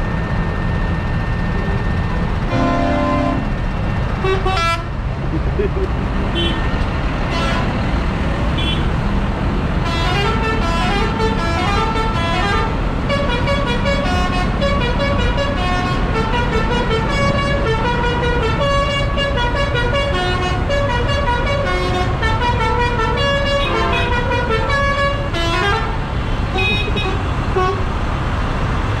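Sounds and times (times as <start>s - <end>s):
diesel engines idling: 0.0s - 29.0s.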